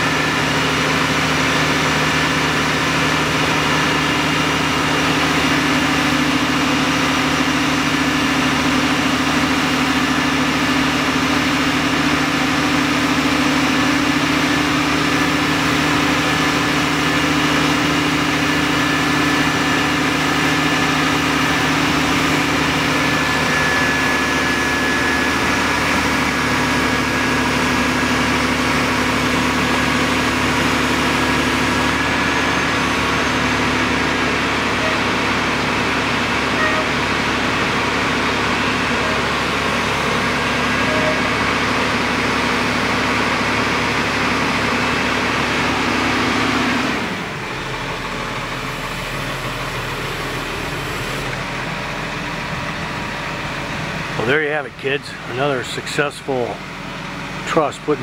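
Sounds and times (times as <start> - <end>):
crane diesel engine running: 0.0 - 58.0.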